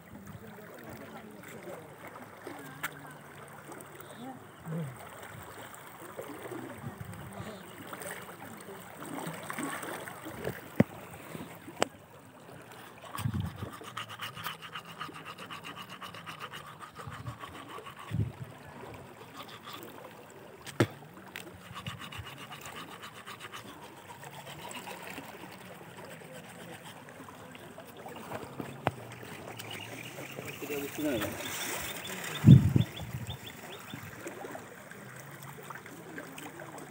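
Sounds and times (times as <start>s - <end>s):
river floodwater flowing: 0.0s - 36.9s.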